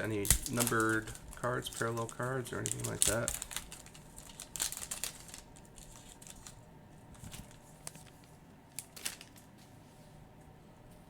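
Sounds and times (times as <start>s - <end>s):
cards rustling: 0.0s - 9.6s.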